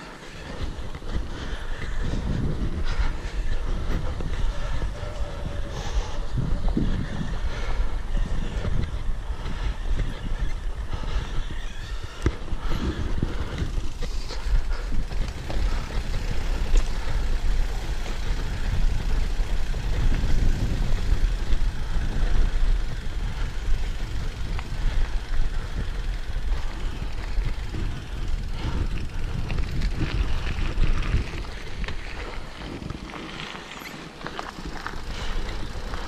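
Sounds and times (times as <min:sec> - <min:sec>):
bicycle tyres rolling on gravel: 0:00.0 - 0:36.0
wind buffeting microphone: 0:00.0 - 0:36.0.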